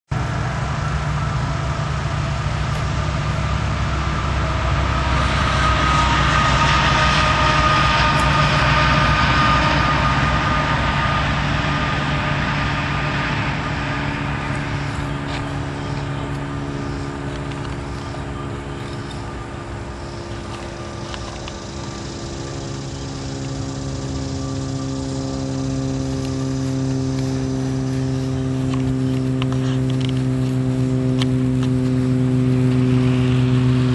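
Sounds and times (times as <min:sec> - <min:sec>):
engine drone: 0:00.1 - 0:33.9.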